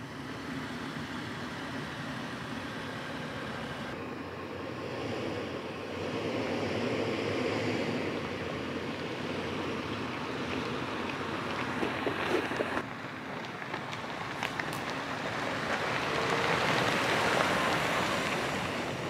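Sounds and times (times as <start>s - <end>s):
off-road vehicles rumbling: 0.0s - 19.0s.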